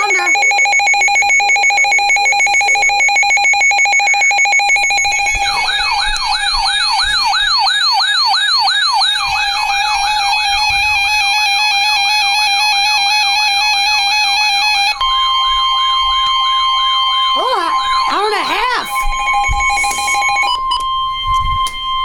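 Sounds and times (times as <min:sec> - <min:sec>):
pulsing electronic alert tones: 0:00.0 - 0:21.3
wailing siren tone: 0:00.0 - 0:22.0.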